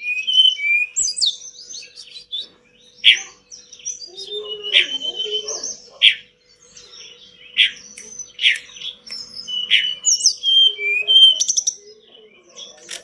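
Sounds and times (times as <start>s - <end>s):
faint steady hum: 0.0s - 13.0s
songbird chirping and whistling: 0.0s - 13.0s.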